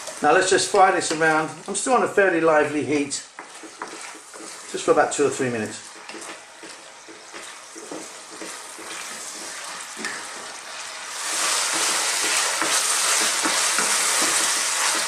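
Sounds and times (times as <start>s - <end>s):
food sizzling in a pan: 0.0s - 15.0s
wooden spoon stirring and scraping: 0.0s - 15.0s.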